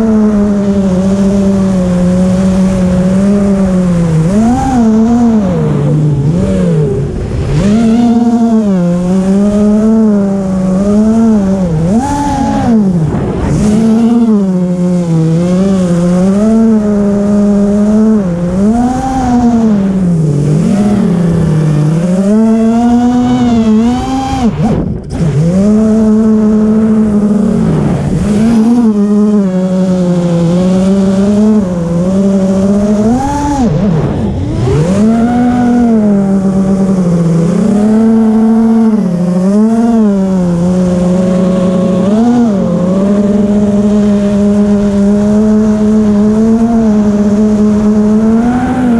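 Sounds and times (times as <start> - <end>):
quadcopter motors whining: 0.0 - 48.9.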